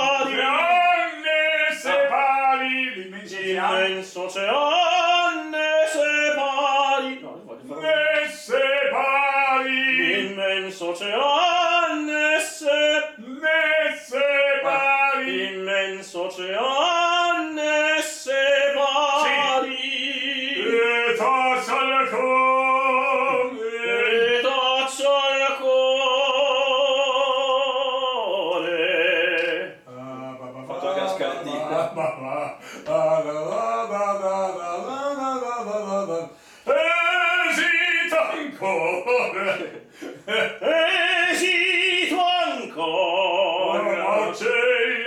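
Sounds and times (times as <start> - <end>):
operatic tenor singing: 0.0 - 45.0.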